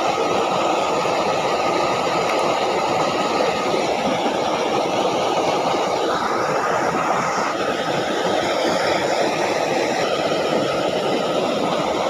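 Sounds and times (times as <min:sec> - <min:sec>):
water flowing in a ditch: 0:00.0 - 0:12.0.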